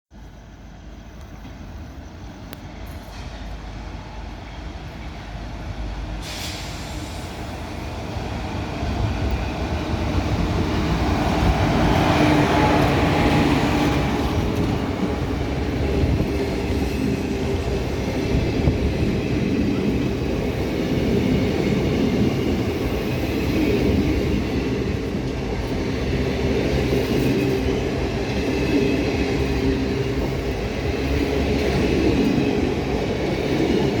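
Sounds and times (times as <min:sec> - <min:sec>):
train wheels rumbling on rails: 0:00.1 - 0:34.0.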